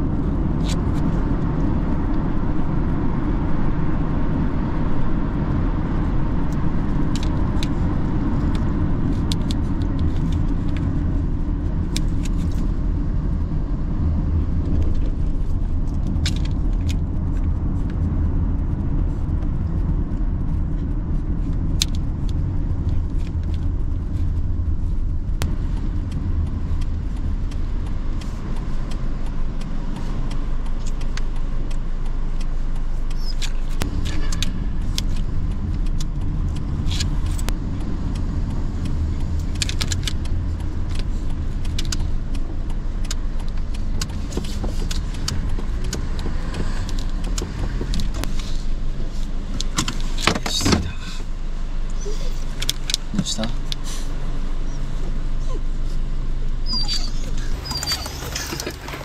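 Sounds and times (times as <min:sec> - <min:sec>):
car engine and road rumble: 0:00.0 - 0:59.0
light rattles and clicks: 0:00.0 - 0:59.0.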